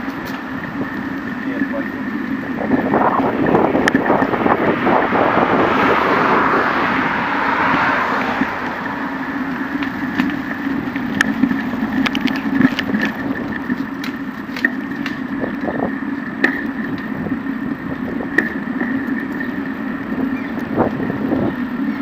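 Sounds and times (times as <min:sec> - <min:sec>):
bike clicks and rattles: 0:00.0 - 0:05.0, 0:07.8 - 0:22.0
bicycle rolling on paving tiles: 0:00.0 - 0:22.0.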